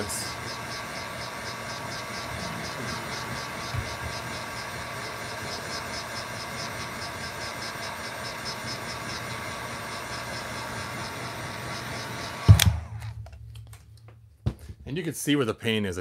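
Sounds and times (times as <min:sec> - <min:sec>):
heat gun fan blowing: 0:00.0 - 0:14.1.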